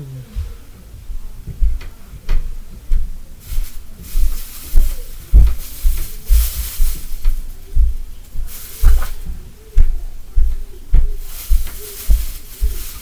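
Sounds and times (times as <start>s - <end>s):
heavy footsteps thudding: 0.3s - 13.0s.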